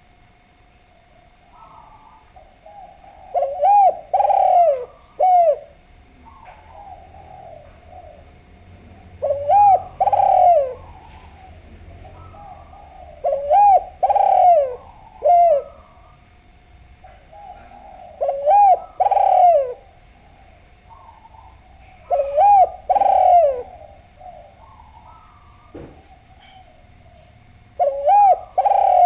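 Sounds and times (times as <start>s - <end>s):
dove cooing: 0.0s - 29.0s.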